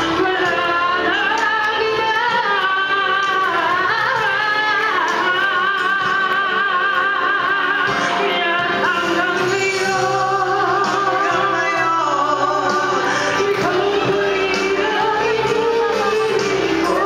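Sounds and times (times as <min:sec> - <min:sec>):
woman singing into a microphone: 0:00.0 - 0:17.0.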